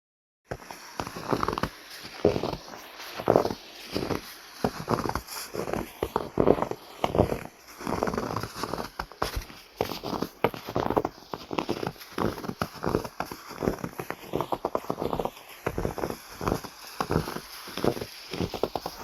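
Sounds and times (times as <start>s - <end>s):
footsteps crunching through snow: 0.5s - 19.0s.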